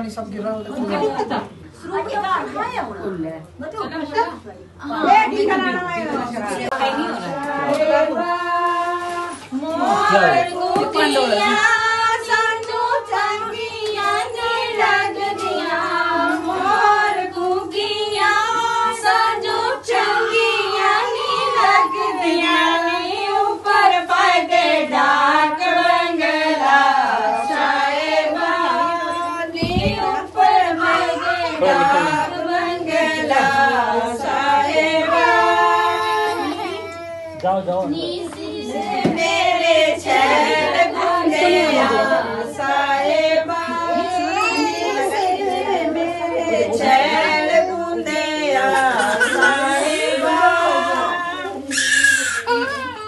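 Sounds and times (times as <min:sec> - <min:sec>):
women singing unaccompanied: 0:04.8 - 0:36.8, 0:38.2 - 0:51.8.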